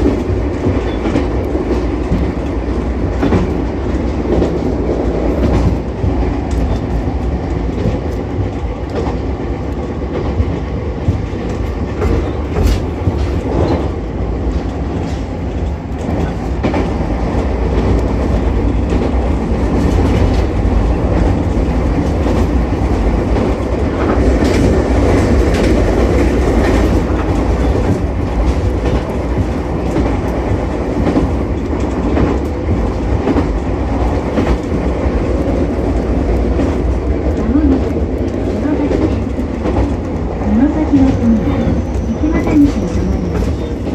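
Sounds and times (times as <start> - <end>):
train interior rumble: 0.0 - 43.9.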